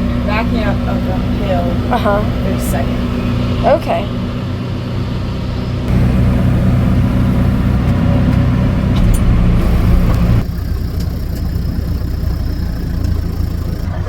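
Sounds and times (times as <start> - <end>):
farm vehicle engine running: 0.0 - 14.0.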